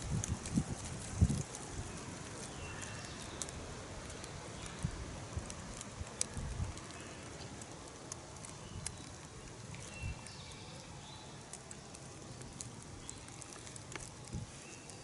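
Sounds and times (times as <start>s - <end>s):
small clicks and rustles: 0.0s - 15.0s.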